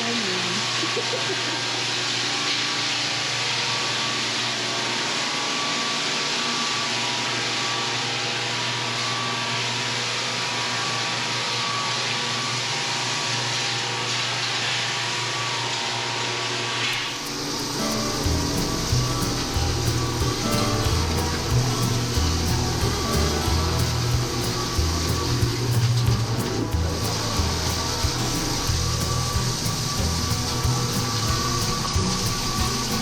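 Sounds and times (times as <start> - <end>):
floor sander running: 0.0 - 33.0.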